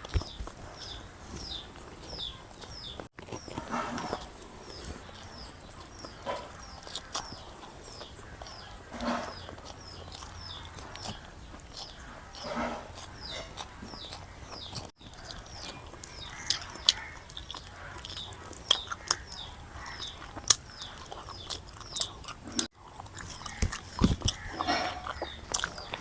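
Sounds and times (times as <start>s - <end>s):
chewing and wet mouth clicks: 0.0s - 26.0s.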